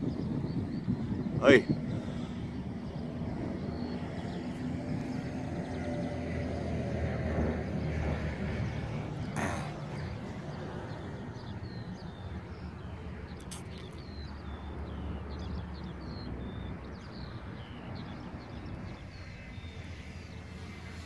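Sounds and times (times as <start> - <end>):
birds chirping: 0.0 - 21.0
wind rumble on microphone: 0.0 - 21.0.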